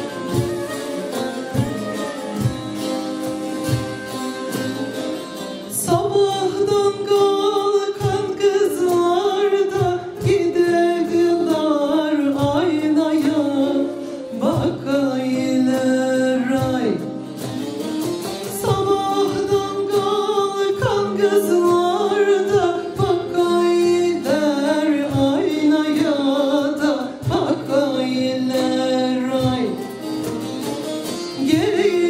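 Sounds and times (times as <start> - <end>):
person singing: 0.0 - 17.2, 18.4 - 30.2, 31.3 - 32.0
drum beats: 0.0 - 32.0
folk instrument ensemble: 0.0 - 32.0.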